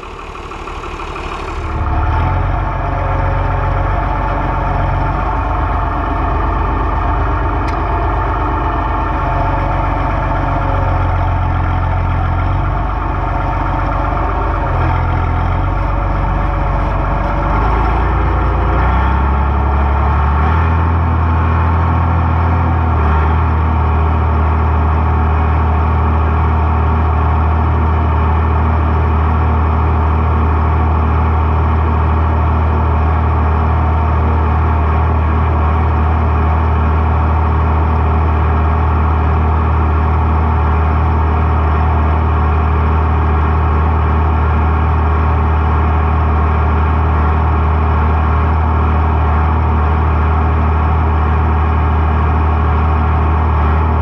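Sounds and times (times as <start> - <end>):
combine engine drone: 0.0 - 54.0.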